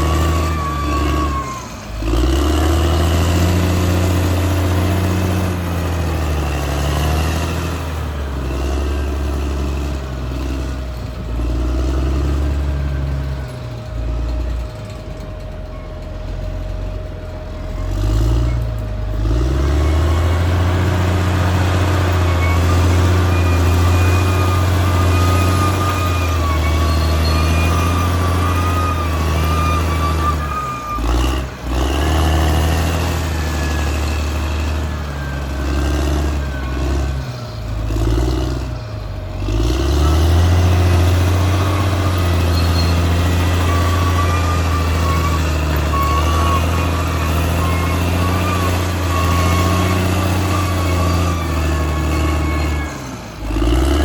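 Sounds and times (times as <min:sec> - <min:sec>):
bulldozer engine under load: 0:00.0 - 0:54.0.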